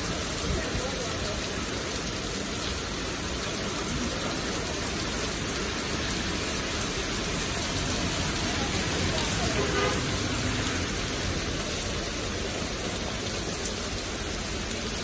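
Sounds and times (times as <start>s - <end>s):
heavy rain on street and cars: 0.0s - 15.0s.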